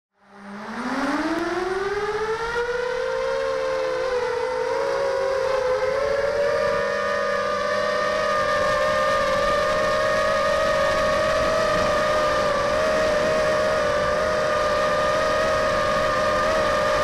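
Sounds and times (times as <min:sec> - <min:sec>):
quadcopter motors whining: 0:00.2 - 0:17.0.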